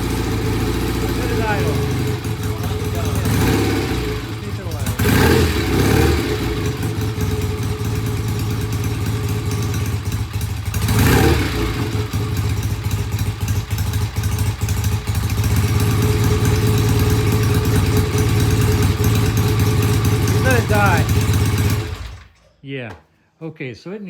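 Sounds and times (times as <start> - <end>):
motorcycle engine idling rough: 0.0 - 22.4.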